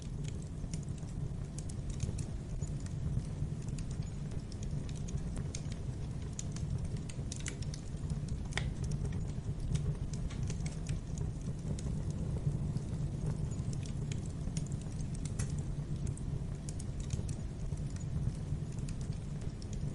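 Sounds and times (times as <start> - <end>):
low rumble of flames: 0.0 - 19.9
wood fire crackling and popping: 0.0 - 19.9.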